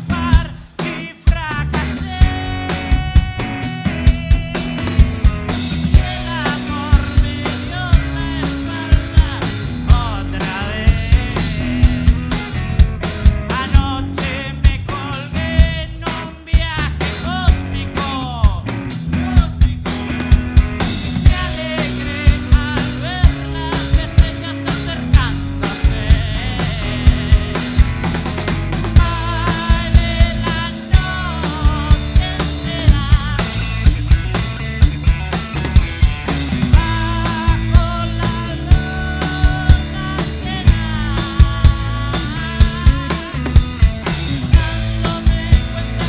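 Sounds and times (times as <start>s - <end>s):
drum kit beat: 0.0s - 46.0s
sustained bass notes: 0.0s - 46.0s.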